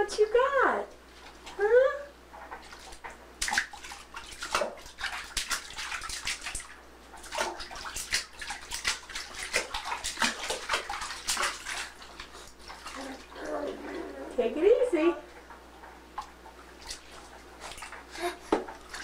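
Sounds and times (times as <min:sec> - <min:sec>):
bath water splashing: 0:00.0 - 0:19.0.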